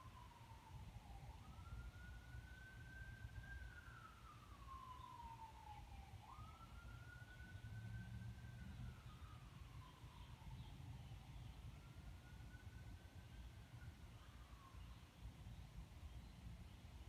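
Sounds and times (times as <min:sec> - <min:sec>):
faint siren wailing: 0:00.0 - 0:16.6.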